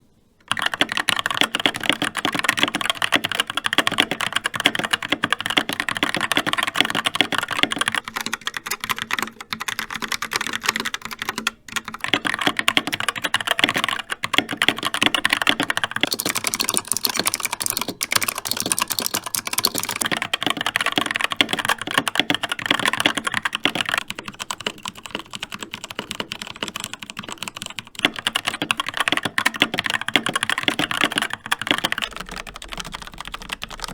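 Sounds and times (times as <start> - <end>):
mechanical keyboard typing: 0.4 - 33.9.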